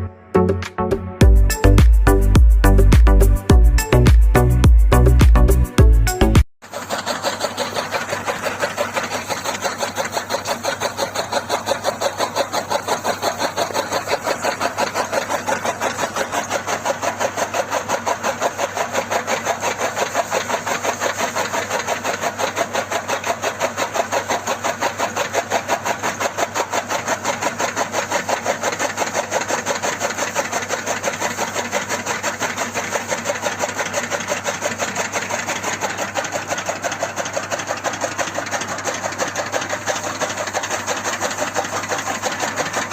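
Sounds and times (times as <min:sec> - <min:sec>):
small machine motor running: 0:06.6 - 0:42.9.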